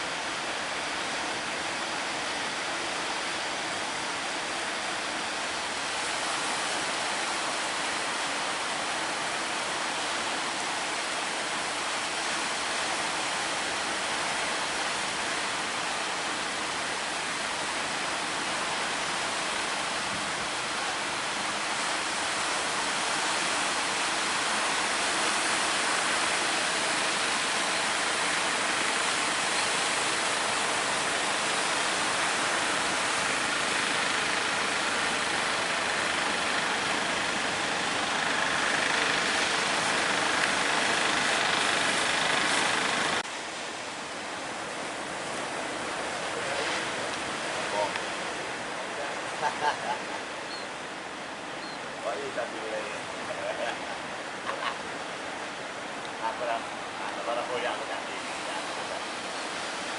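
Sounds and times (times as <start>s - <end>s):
waves breaking: 0.0s - 59.9s.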